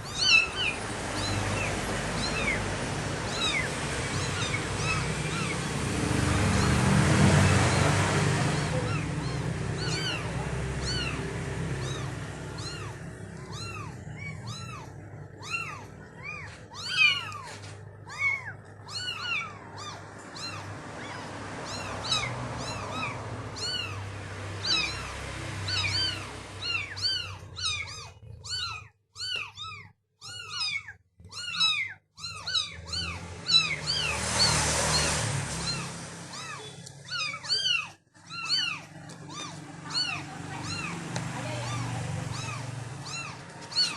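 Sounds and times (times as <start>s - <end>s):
kittens mewing: 0.0s - 43.9s.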